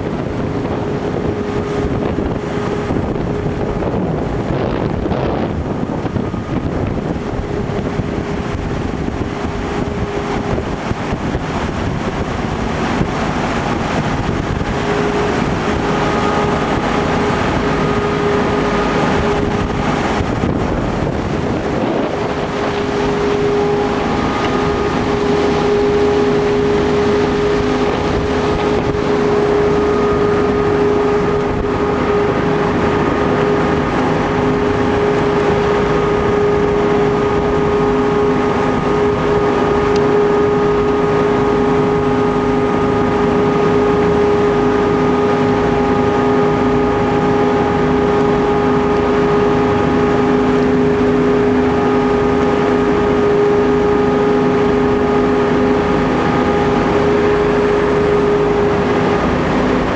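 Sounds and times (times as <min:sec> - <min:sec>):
boat engine humming: 0:00.0 - 0:59.9
rush of boat wake: 0:00.0 - 0:59.9
wind buffeting microphone: 0:00.0 - 0:59.9.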